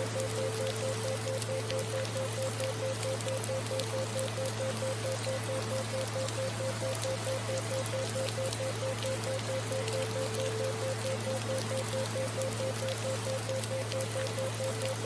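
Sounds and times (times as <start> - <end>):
continuous low hum: 0.0 - 15.0
steady rain: 0.0 - 15.0.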